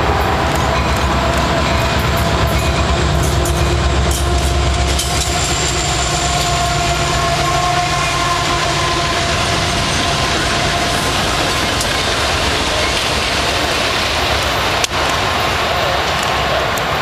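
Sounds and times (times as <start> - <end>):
locomotive engine rumble: 0.0 - 17.0
wheels clacking over rail joints: 0.0 - 17.0.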